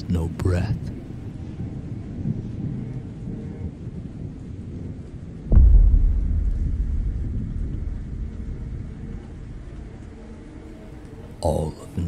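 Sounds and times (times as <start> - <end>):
thunder rumbling: 0.9 - 12.0
thunderclap: 1.5 - 11.4.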